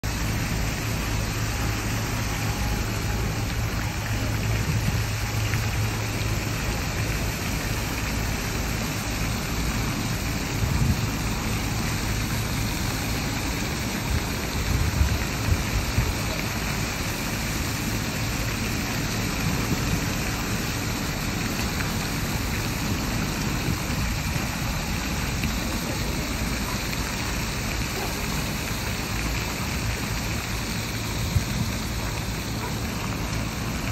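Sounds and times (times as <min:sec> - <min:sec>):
fountain water splashing: 0:00.0 - 0:33.9.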